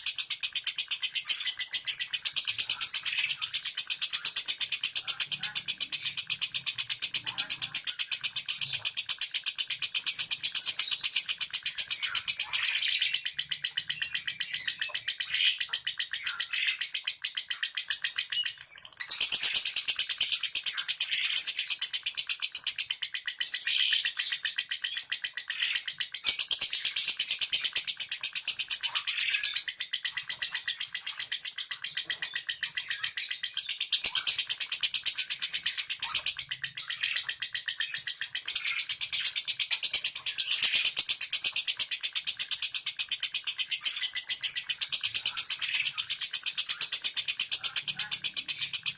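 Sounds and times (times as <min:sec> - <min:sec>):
lovebird rapid clicking song: 0:00.0 - 0:48.9.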